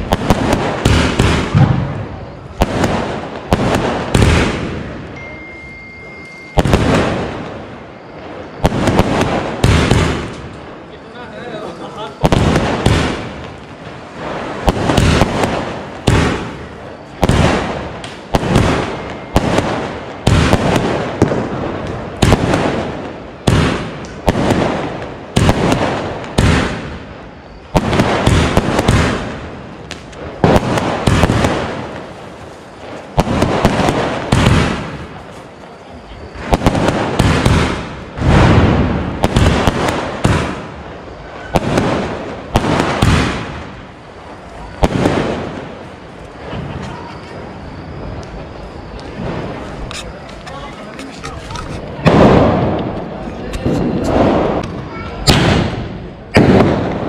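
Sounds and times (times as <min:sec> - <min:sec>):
fireworks bangs with echo: 0:00.0 - 0:57.0.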